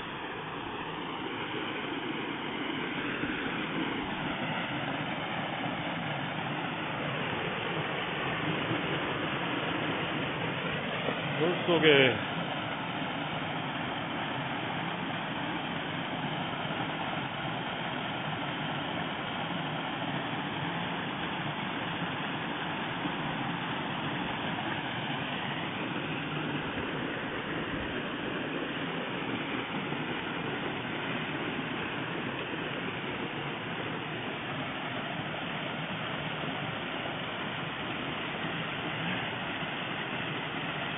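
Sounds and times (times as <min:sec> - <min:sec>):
waterfall splashing into pond: 0:00.0 - 0:40.9.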